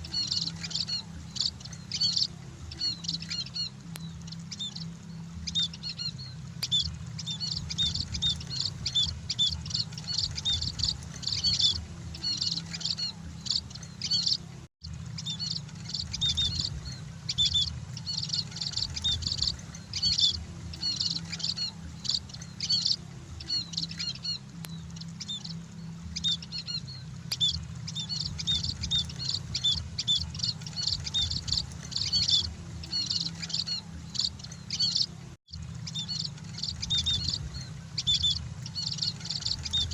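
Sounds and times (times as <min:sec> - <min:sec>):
birds chirping in chorus: 0:00.0 - 0:39.9
steady low hum: 0:00.0 - 0:39.9.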